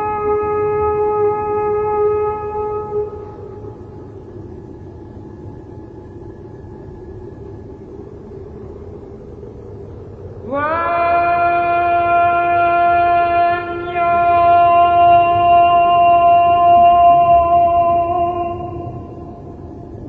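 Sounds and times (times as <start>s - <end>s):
droning note rich in overtones: 0.0s - 8.9s, 10.8s - 20.0s
low rumbling hum: 0.0s - 20.0s.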